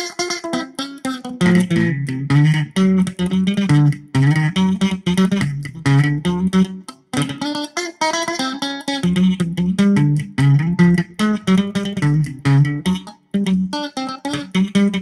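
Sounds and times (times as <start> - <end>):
distorted electric guitar riffing: 0.0 - 15.0.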